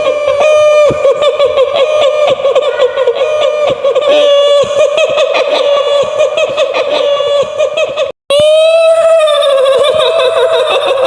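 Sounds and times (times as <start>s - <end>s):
woman cackling shrilly: 0.0s - 11.0s.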